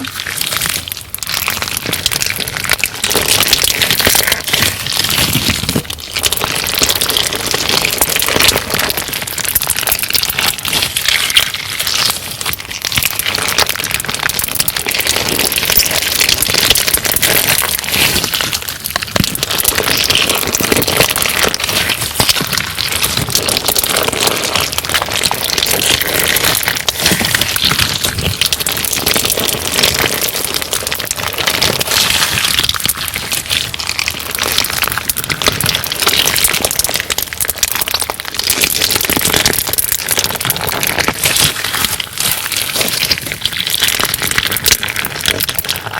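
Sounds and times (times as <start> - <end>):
crunchy slime crackling: 0.0 - 45.9.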